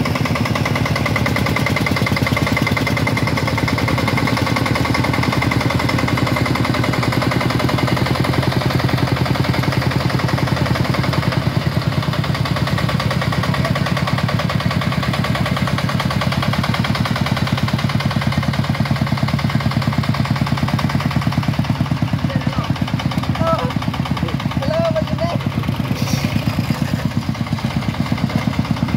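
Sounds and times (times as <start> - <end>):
tractor diesel engine chugging: 0.0 - 28.9.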